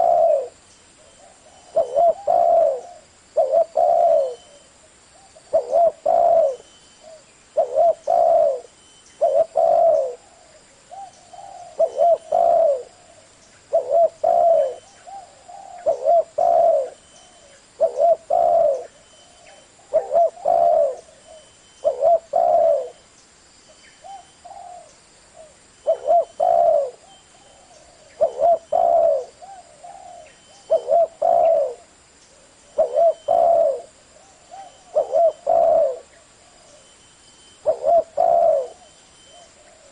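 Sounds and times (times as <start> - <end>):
dove cooing: 0.0 - 23.0, 24.0 - 37.0, 37.6 - 39.9.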